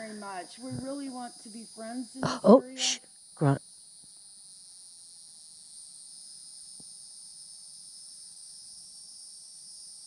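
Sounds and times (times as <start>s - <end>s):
insects trilling at night: 0.0s - 10.0s.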